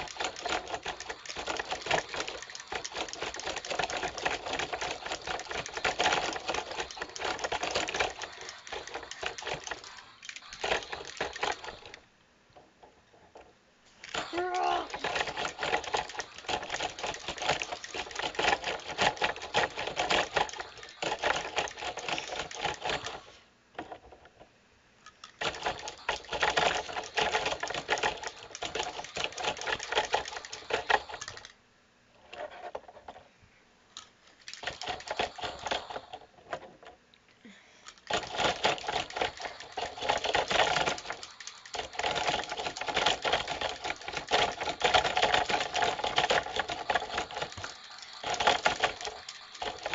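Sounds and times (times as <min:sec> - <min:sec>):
toy robots whirring and clattering: 0:00.0 - 0:12.0, 0:12.6 - 0:24.4, 0:25.0 - 0:31.6, 0:34.0 - 0:49.9.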